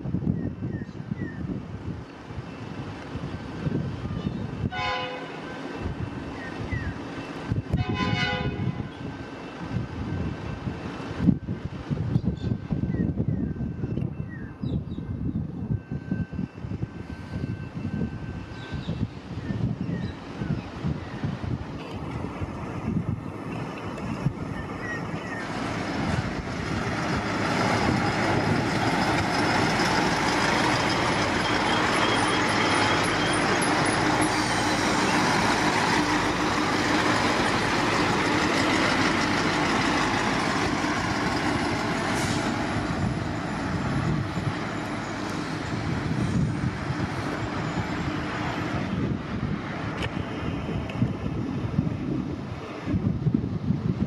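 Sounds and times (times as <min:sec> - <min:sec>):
diesel train passing: 0:00.0 - 0:54.0.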